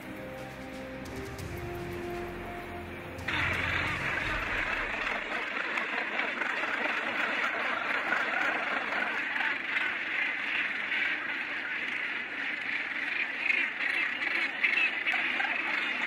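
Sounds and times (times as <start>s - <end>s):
gannet colony calling: 1.4s - 16.0s.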